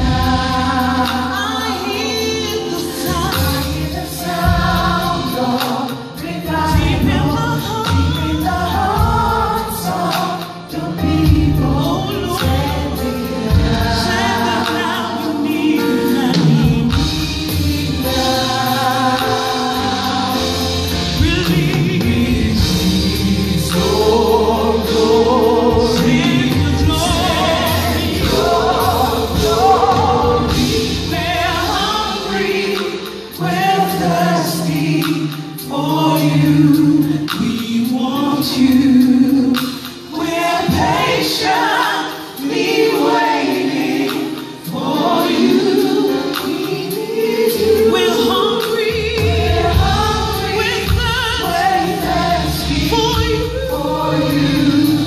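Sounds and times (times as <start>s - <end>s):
gospel choir singing: 0.0s - 55.0s
keyboard band accompaniment: 0.0s - 55.0s.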